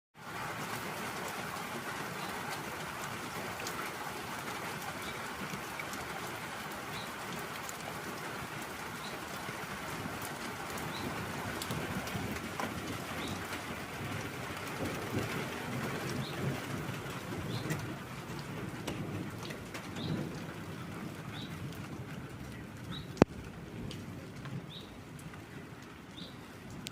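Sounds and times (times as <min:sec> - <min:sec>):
steady rain falling: 0:00.2 - 0:26.9
water drips: 0:01.2 - 0:26.9.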